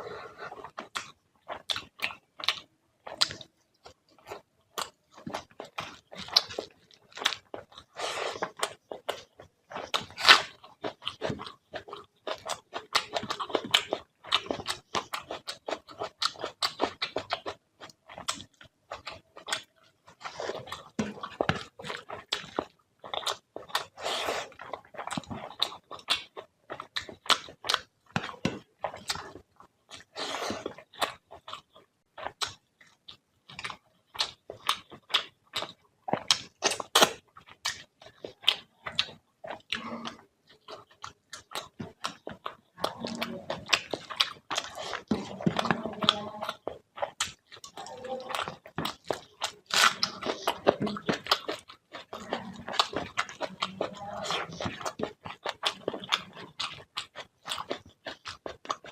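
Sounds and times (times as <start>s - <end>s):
person chewing with smacking: 0.0s - 58.9s.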